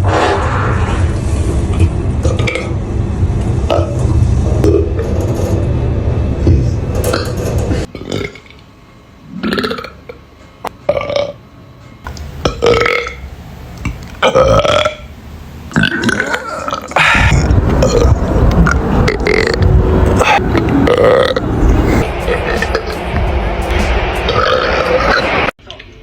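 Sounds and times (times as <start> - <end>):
loud low rumbling noise: 0.0 - 7.9, 12.1 - 25.5.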